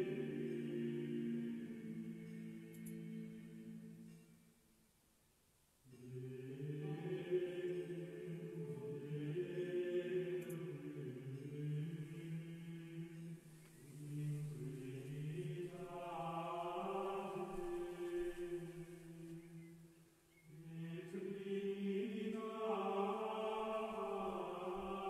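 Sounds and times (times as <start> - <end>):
choral chant: 0.0 - 4.3, 5.9 - 25.0.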